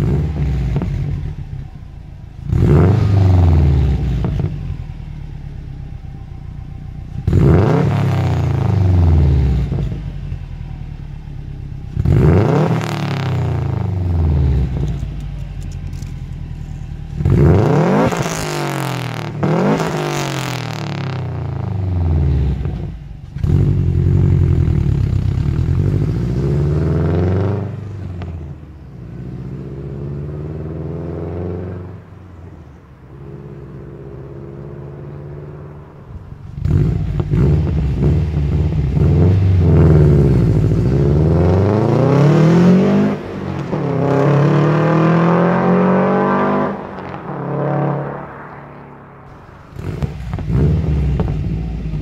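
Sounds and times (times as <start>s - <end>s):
car engine revving: 0.0s - 52.0s
car driving through gears: 2.3s - 52.0s.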